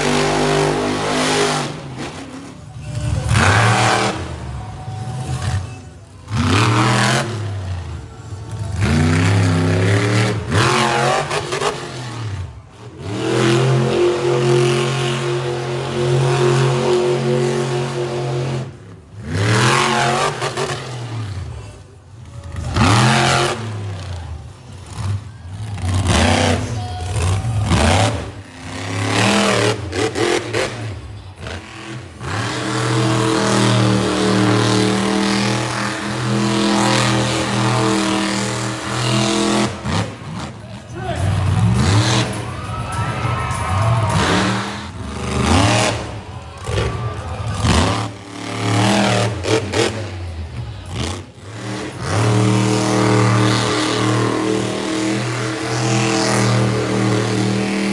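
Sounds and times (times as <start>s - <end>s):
monster truck engines revving: 0.0s - 57.9s.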